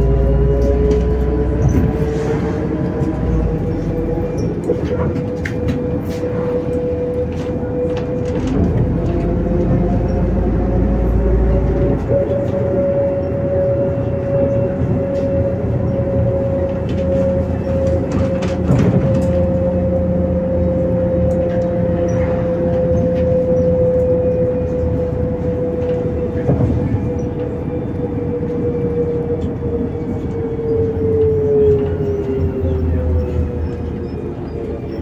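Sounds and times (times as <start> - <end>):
bus engine and drivetrain rumble: 0.0 - 35.0
drivetrain whine: 0.0 - 35.0.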